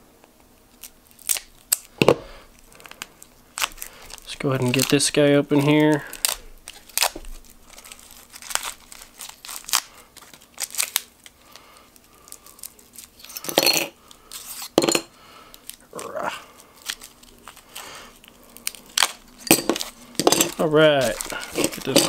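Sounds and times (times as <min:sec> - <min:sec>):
plastic wrapping crinkling and tearing: 0:00.6 - 0:13.4, 0:15.4 - 0:22.0.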